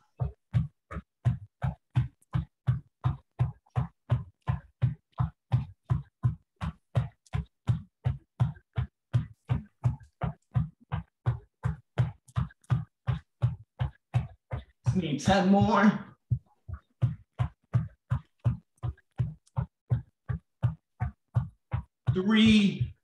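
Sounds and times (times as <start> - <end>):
feet thudding on rug: 0.2 - 23.0.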